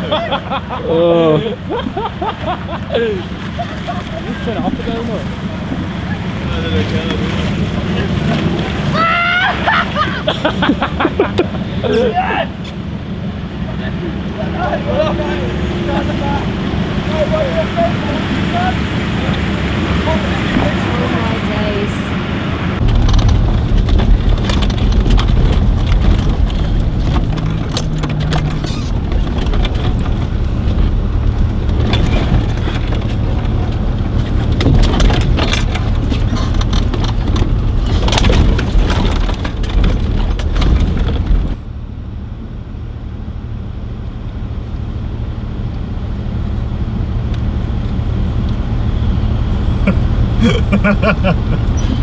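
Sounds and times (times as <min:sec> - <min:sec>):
body and suspension rattling: 0:00.0 - 0:52.0
vehicle engine running: 0:00.0 - 0:52.0.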